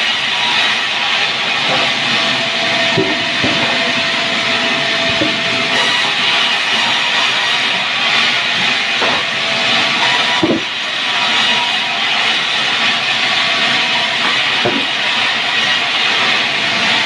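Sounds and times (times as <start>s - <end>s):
saw cutting through log: 0.0s - 17.0s.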